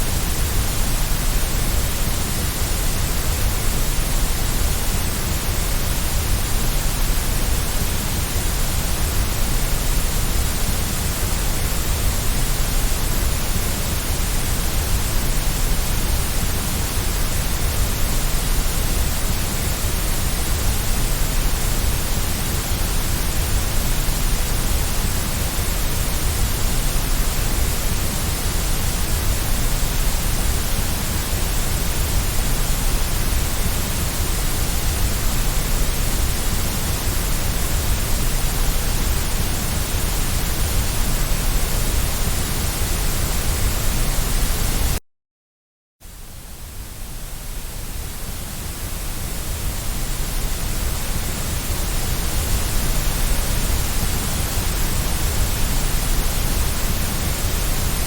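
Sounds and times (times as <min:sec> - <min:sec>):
white noise hiss: 0:00.0 - 0:45.0, 0:46.0 - 0:58.0.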